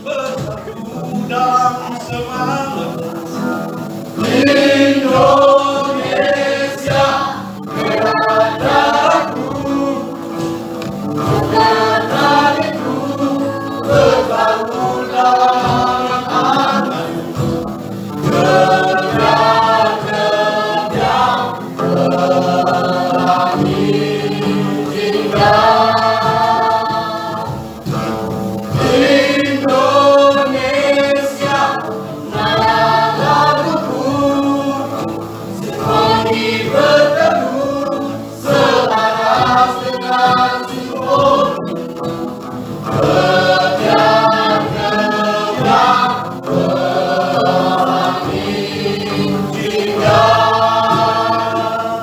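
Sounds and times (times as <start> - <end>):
mixed choir singing in harmony: 0.0 - 52.0.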